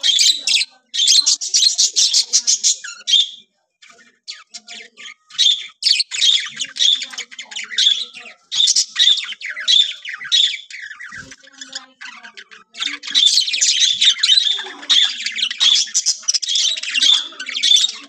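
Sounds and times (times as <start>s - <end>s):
budgerigars chirping and squawking: 0.0s - 18.0s.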